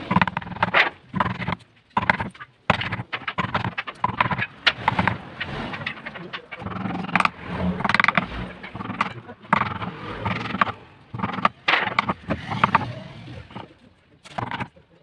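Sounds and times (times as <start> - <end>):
carving gouge scraping wood: 0.0 - 14.8.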